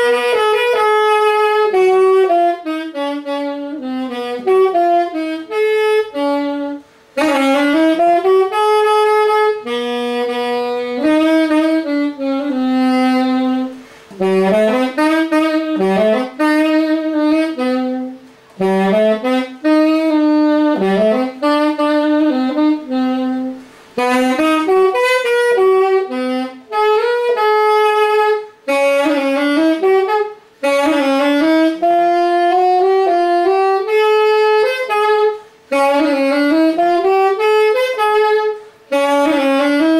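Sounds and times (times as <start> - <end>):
alto saxophone melody: 0.0 - 39.9.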